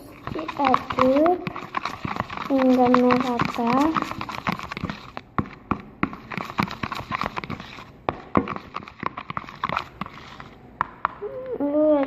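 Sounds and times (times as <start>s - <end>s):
spatula stirring sticky slime: 0.0s - 12.0s.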